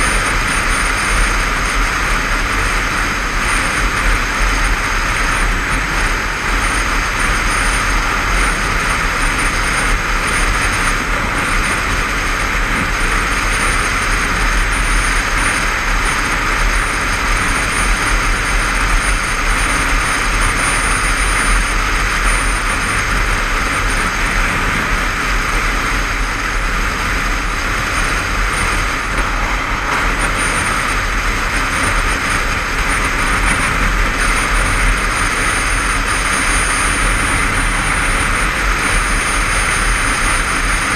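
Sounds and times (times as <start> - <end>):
motorcycle engine running: 0.0 - 40.9
road noise: 0.0 - 40.9
wind rush: 0.0 - 40.9.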